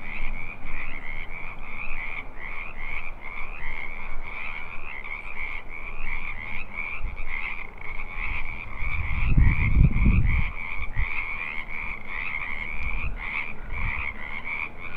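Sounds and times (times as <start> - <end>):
frogs croaking: 0.0 - 14.9.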